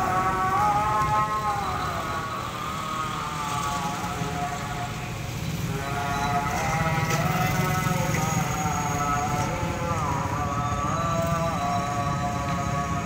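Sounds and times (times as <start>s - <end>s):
vehicle motor humming: 0.0s - 13.0s.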